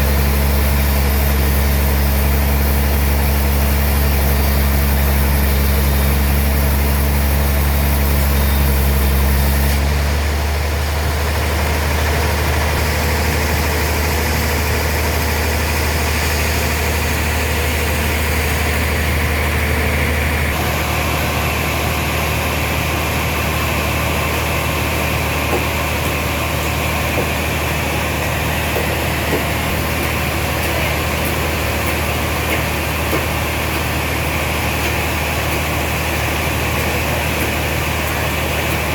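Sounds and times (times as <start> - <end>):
heavy sawmill machinery humming: 0.0 - 38.9.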